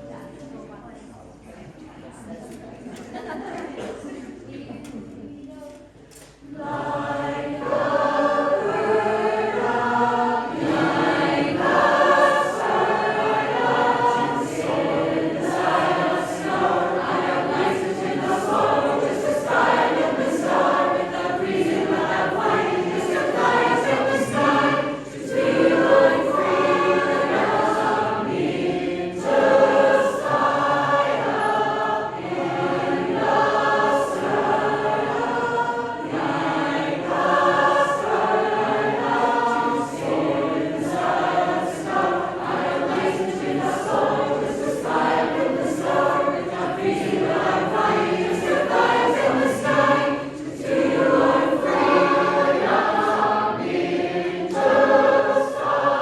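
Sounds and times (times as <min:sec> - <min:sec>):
choir singing: 0:06.4 - 0:56.0.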